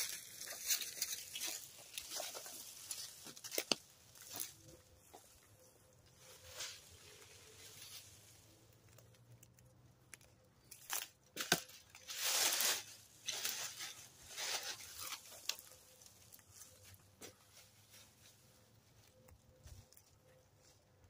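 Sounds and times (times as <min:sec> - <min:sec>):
dry leaves rustling: 0:00.0 - 0:09.5, 0:10.2 - 0:20.8.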